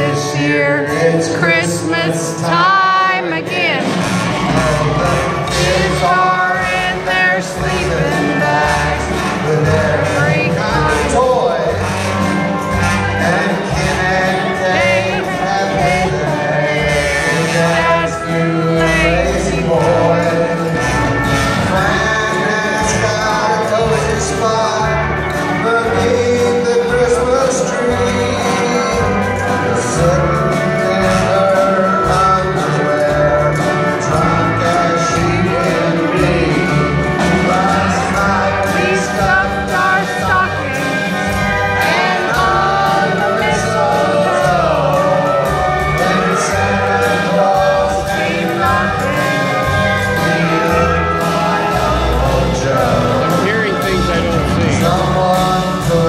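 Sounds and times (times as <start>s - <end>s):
live country band playing: 0.0s - 56.0s
person singing: 0.0s - 56.0s.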